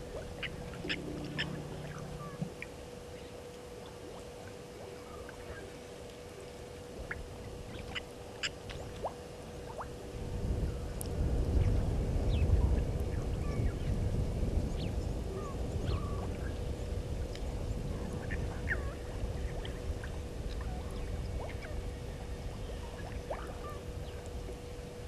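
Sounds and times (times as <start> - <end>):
faint steady hum: 0.0 - 25.0
wind rumble on microphone: 0.0 - 25.0.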